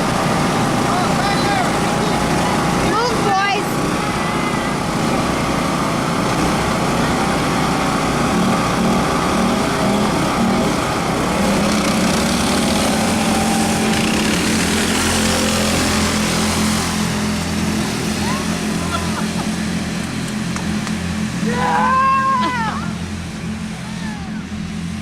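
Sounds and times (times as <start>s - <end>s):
small engines droning: 0.0s - 25.0s.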